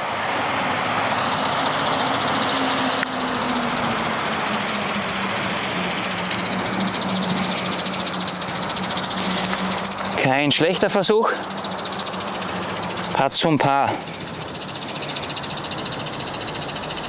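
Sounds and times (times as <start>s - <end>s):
motor-like hum: 0.0s - 17.0s.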